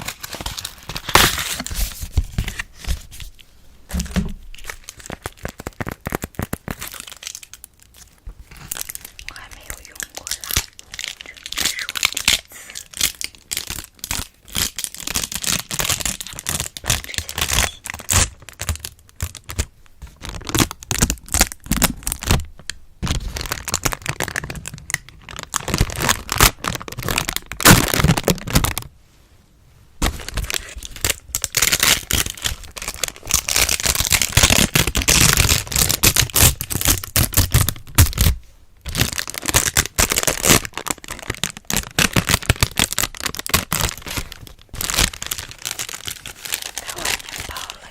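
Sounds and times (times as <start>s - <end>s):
wax cloth crinkling: 0.0s - 20.8s, 30.0s - 47.9s.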